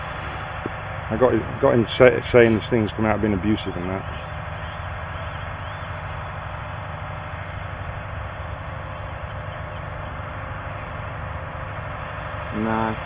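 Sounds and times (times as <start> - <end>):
constant hiss: 0.0 - 13.0
engine humming at low speed: 0.0 - 13.0.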